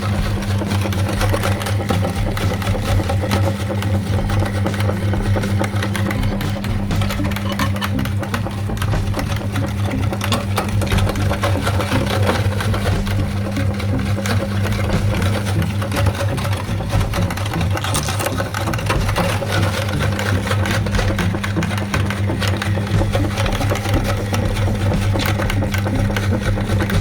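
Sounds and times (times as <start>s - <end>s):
candy crackling in grinder: 0.0s - 27.0s
electric meat grinder humming: 0.0s - 27.0s.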